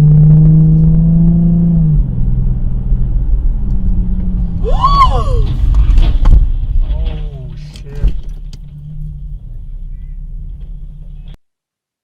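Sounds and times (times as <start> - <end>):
car engine running: 0.0 - 11.4
low road rumble: 0.0 - 11.4.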